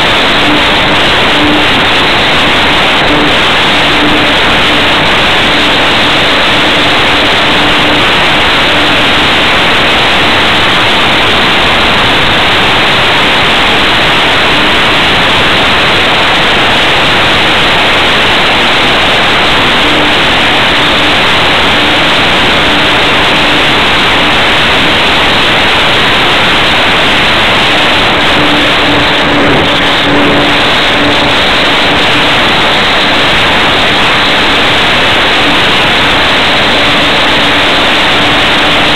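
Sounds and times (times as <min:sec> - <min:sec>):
faint engine hum: 0:00.0 - 0:38.9
loud rush of wind: 0:00.0 - 0:38.9.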